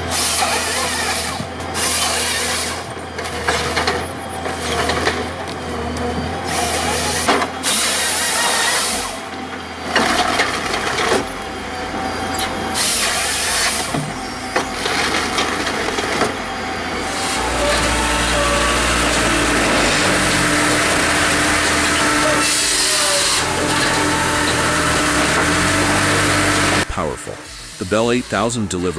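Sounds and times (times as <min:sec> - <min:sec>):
loud hissing bursts of cutting: 0:00.0 - 0:02.8, 0:06.4 - 0:28.5
deep steady machine drone: 0:00.0 - 0:28.9
wood-cutting machine engine drone: 0:00.0 - 0:28.9.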